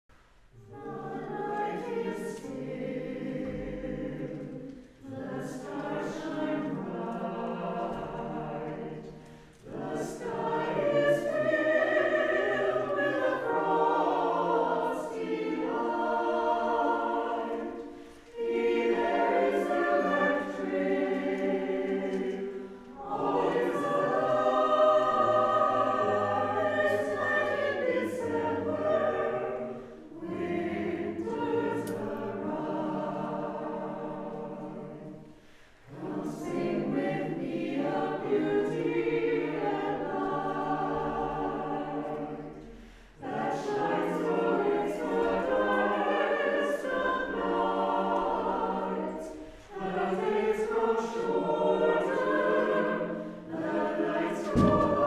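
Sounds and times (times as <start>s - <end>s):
mixed choir singing: 0.5s - 55.0s.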